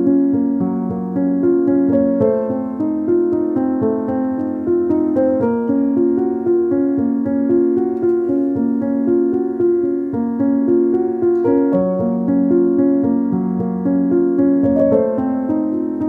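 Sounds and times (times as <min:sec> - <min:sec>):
keyboard melody over chords: 0:00.0 - 0:16.0.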